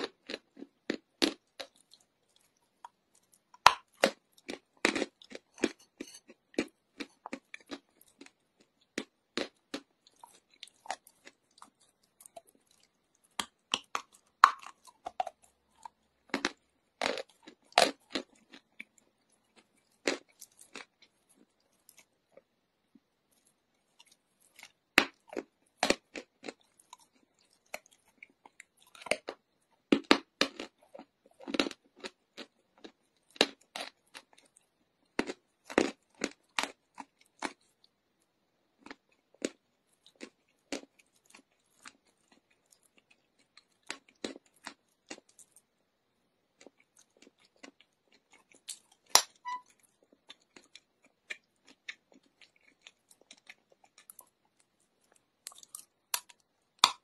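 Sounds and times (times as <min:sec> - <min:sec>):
person chewing chalk crunching: 0:00.0 - 0:37.8, 0:38.8 - 0:45.7, 0:46.5 - 0:57.0.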